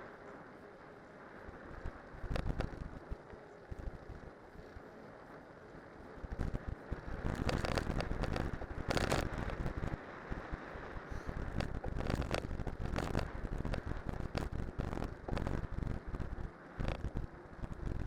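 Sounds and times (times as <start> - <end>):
bike tyres rumbling on snow: 0.1 - 18.0.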